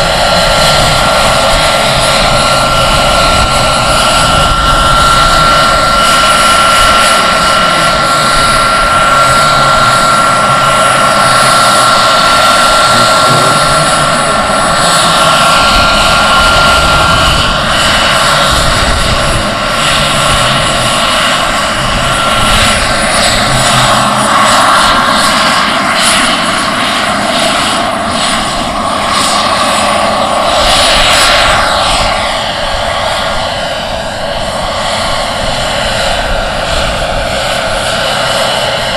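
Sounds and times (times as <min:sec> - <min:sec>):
model helicopter turbine whining: 0:00.0 - 0:38.9.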